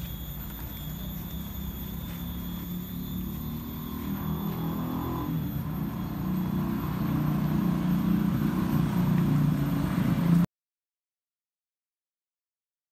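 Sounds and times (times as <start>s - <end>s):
vehicle engine rumbling: 0.0s - 10.5s.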